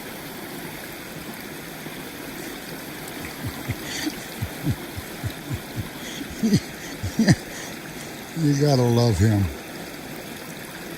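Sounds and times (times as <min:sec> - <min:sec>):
water running through dam: 0:00.0 - 0:10.9.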